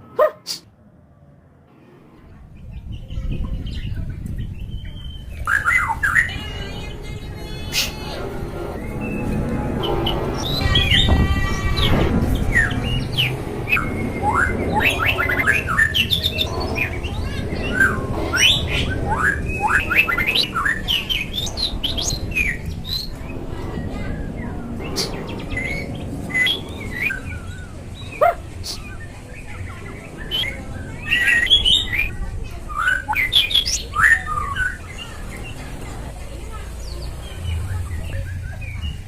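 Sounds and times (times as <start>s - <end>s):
songbirds singing: 2.3s - 39.0s.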